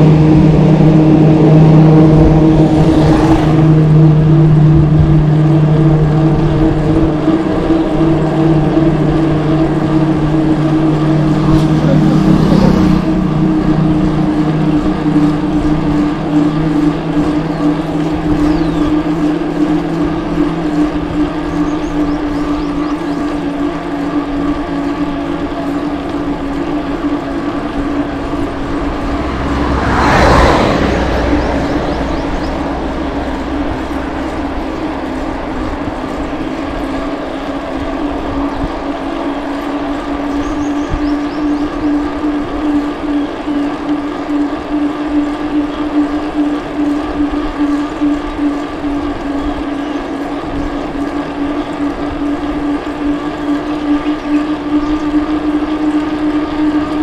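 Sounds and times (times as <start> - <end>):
engine humming steadily: 0.0 - 57.0
vehicle passing: 0.0 - 57.0.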